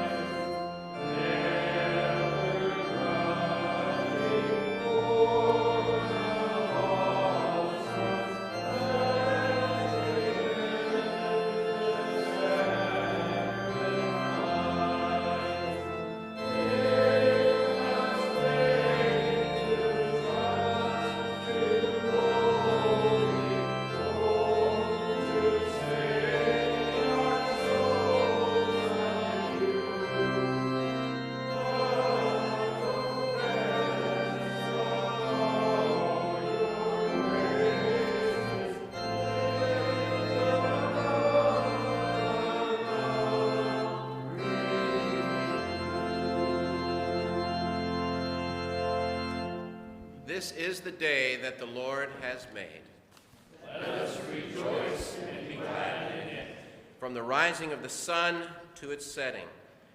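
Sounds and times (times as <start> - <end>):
voices singing: 0.0 - 49.6, 53.6 - 57.8
organ chords: 0.0 - 52.8, 53.6 - 59.8.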